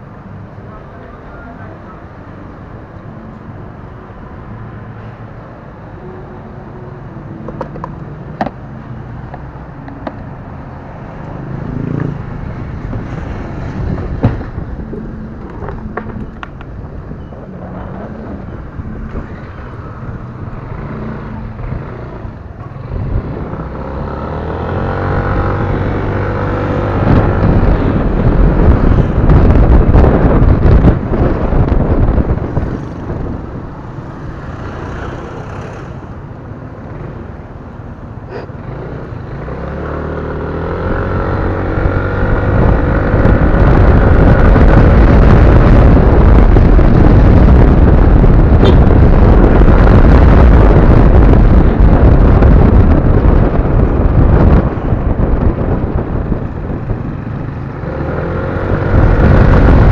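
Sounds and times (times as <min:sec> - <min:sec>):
wind rushing over microphone: 0:00.0 - 0:59.9
scooter engine idling and accelerating: 0:06.0 - 0:59.9.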